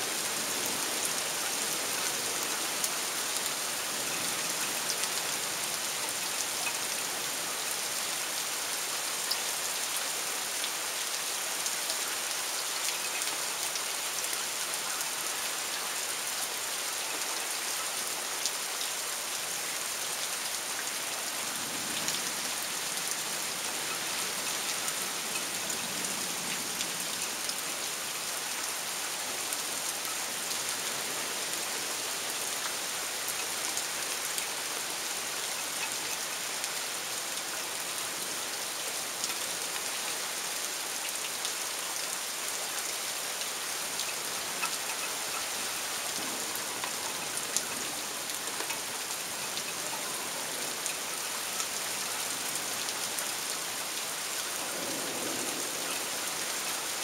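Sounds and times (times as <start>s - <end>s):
heavy rain hiss: 0.0s - 57.0s
raindrops ticking on surfaces: 0.0s - 57.0s.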